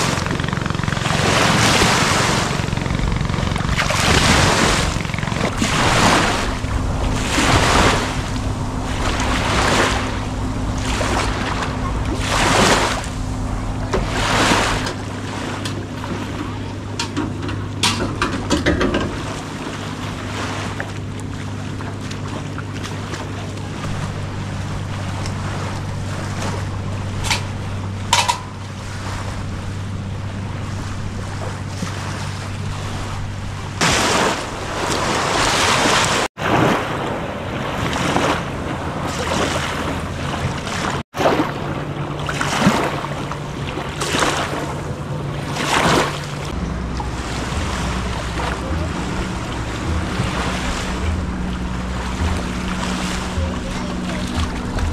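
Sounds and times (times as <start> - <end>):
wind on microphone: 0.0 - 20.8, 23.8 - 54.9
boat motor humming: 0.0 - 54.9
waves splashing: 0.0 - 54.9.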